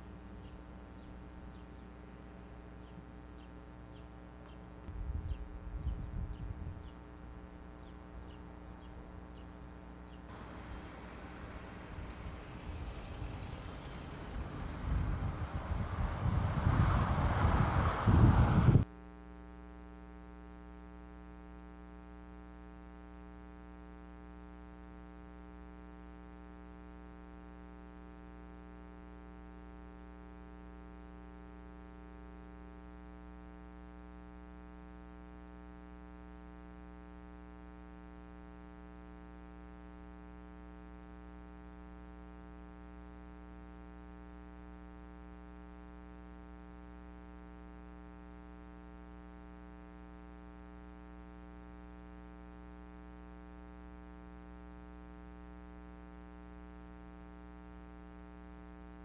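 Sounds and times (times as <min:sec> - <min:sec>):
buzzy electrical hum: 0:00.0 - 0:59.0.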